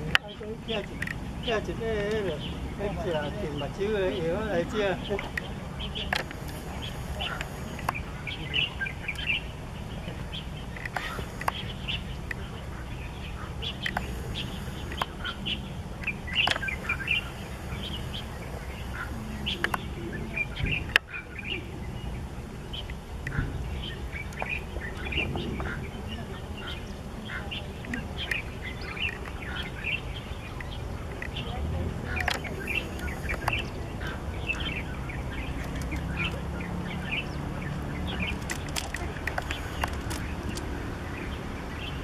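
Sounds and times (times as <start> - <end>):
birds chirping: 0.0 - 42.0
steady low rumble: 0.0 - 42.0.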